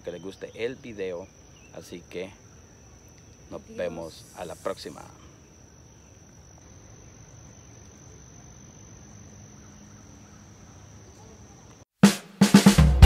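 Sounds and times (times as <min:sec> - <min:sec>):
high-pitched insect trill: 0:00.0 - 0:11.8.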